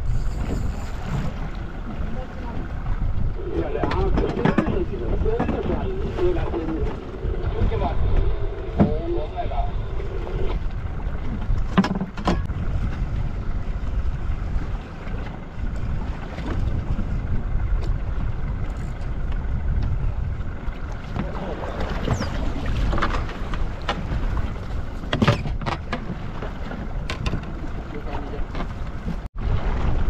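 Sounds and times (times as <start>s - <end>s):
boat engine rumble: 0.0s - 30.0s.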